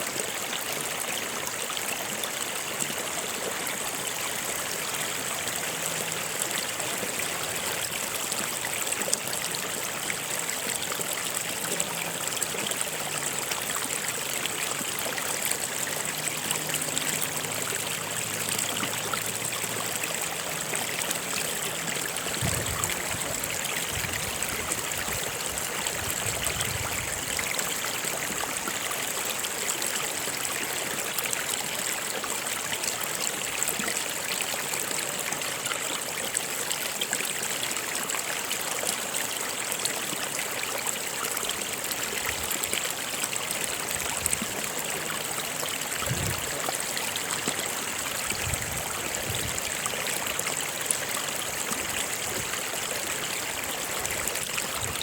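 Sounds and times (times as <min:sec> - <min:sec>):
stream of water rushing: 0:00.0 - 0:55.0.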